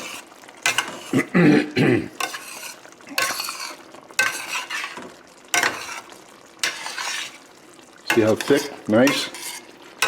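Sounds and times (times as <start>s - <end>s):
spoon stirring and scraping pot: 0.0s - 1.3s, 2.2s - 10.0s.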